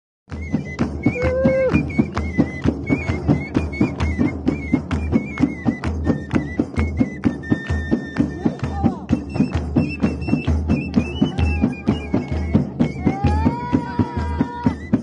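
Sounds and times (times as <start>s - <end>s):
high wavering pipe melody: 0.3s - 15.0s
fast drum beat: 0.4s - 15.0s.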